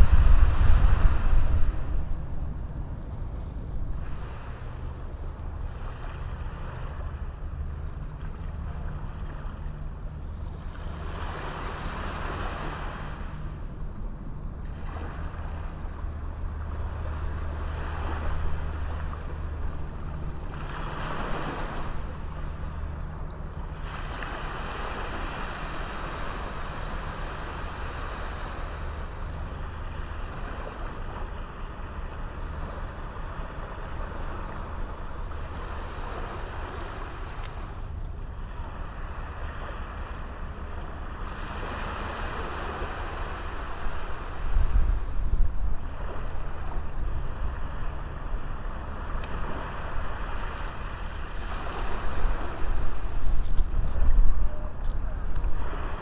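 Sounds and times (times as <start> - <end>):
steady low rumble: 0.0 - 11.8, 13.1 - 56.0
sea waves washing onto beach: 3.9 - 13.7, 14.7 - 56.0.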